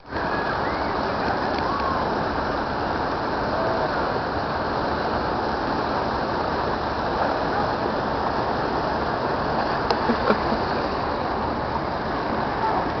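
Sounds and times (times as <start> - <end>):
rushing churning water: 0.0 - 13.0.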